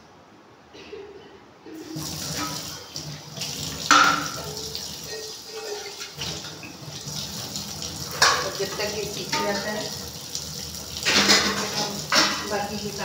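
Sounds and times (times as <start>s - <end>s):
water running: 1.8s - 13.0s.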